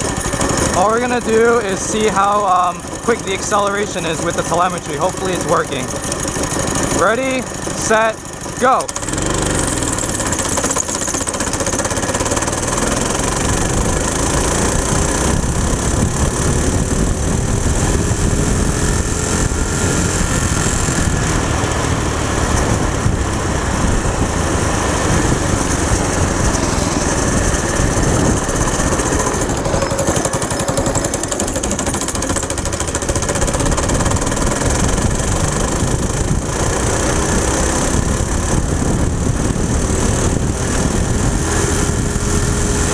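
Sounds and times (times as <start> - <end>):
go-kart engine accelerating: 0.0 - 42.9.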